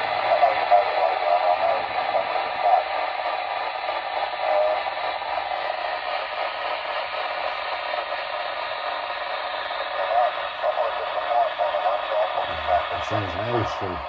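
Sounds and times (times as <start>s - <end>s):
radio static hiss: 0.0s - 5.1s, 6.6s - 14.0s.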